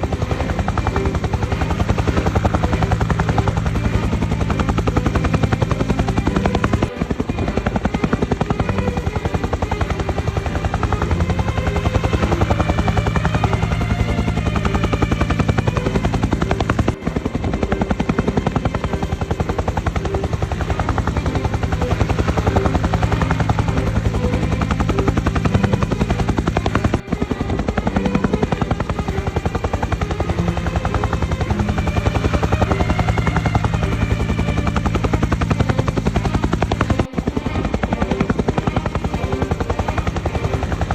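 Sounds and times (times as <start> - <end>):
helicopter engine noise: 0.0 - 40.9
helicopter rotor blades chopping: 0.0 - 40.9.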